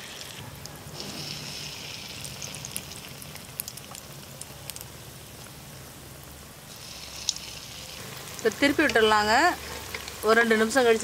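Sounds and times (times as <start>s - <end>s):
fritters sizzling in oil: 0.0s - 11.0s.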